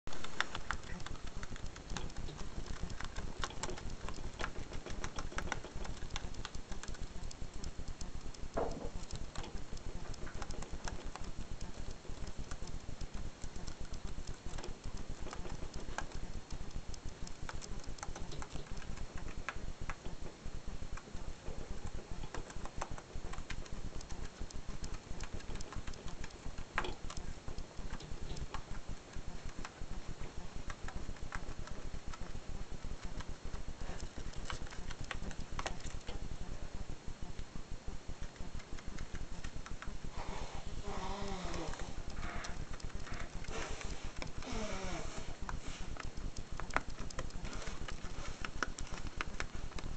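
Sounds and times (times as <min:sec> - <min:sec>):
hamster chewing cardboard: 0:00.1 - 0:36.6, 0:38.1 - 0:49.9.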